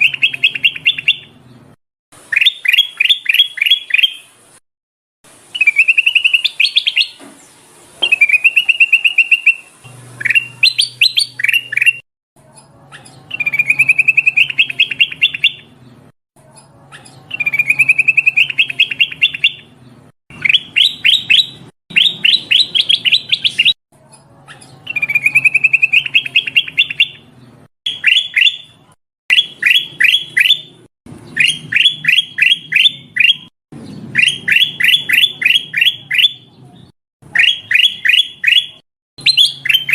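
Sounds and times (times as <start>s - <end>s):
bulbul calling: 0.0s - 1.4s, 2.3s - 4.3s, 5.5s - 12.0s, 12.9s - 15.7s, 16.9s - 19.7s, 20.3s - 23.8s, 24.5s - 27.3s, 27.9s - 36.5s, 37.2s - 39.9s.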